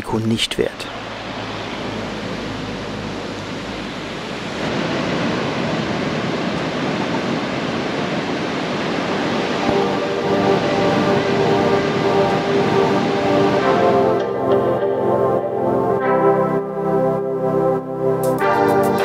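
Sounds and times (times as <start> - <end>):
wind: 0.0 - 18.0
sea surf: 0.0 - 19.0.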